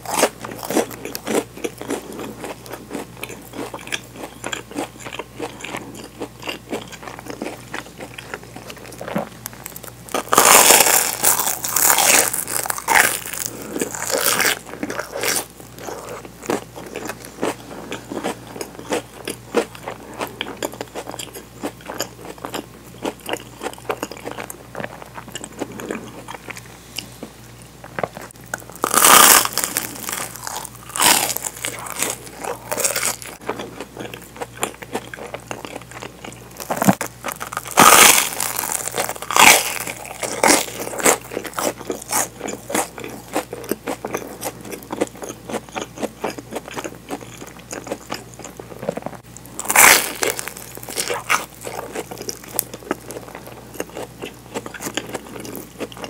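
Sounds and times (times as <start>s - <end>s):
crunchy chewing: 0.0s - 56.0s
biting into crunchy toast: 0.1s - 26.6s, 28.0s - 56.0s.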